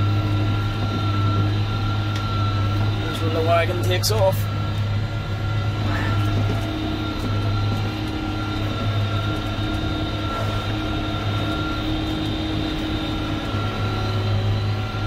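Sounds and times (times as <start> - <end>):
faint steady whine: 0.0 - 15.0
tractor engine drone: 0.0 - 15.0.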